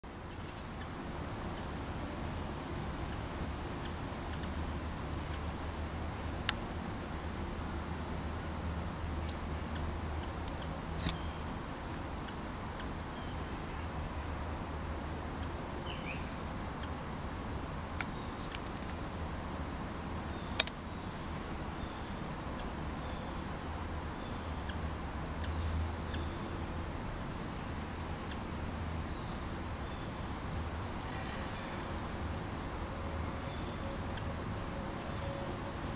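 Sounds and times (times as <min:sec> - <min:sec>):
high-pitched insect trill: 0:00.1 - 0:35.9.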